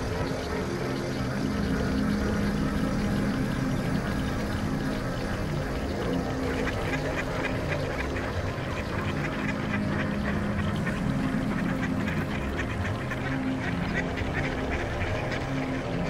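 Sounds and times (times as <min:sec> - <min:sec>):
low steady hum: 0:00.0 - 0:16.0
mallards quacking: 0:00.0 - 0:16.0.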